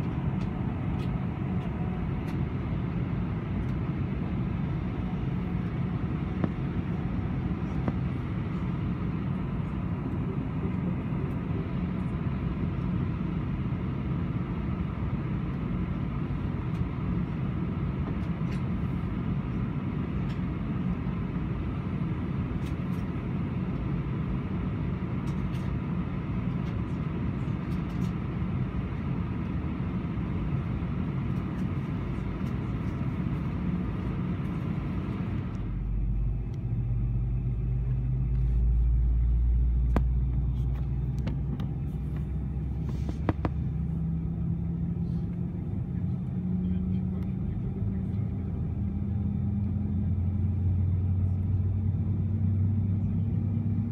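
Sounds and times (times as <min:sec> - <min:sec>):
air conditioning airflow: 0:00.0 - 0:53.9.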